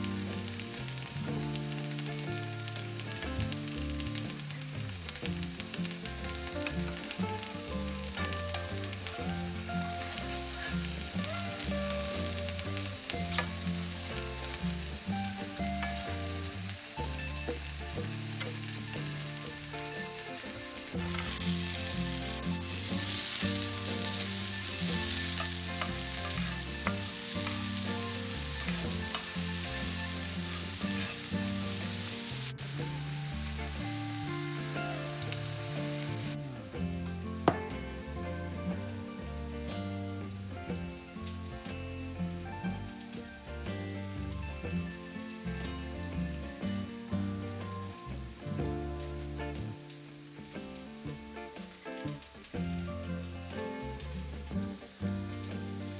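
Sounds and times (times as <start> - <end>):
food sizzling in a pan: 0.0 - 55.9
soft background music: 0.0 - 55.9.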